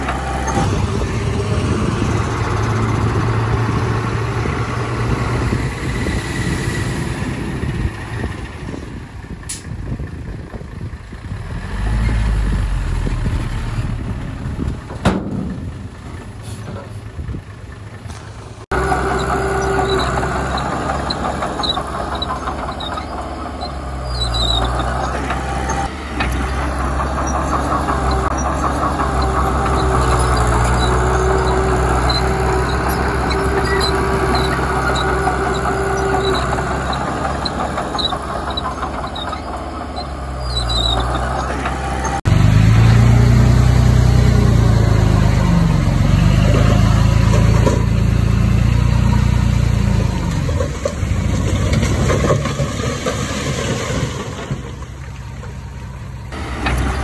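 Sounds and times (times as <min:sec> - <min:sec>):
diesel machinery engine working: 0:00.0 - 0:57.0.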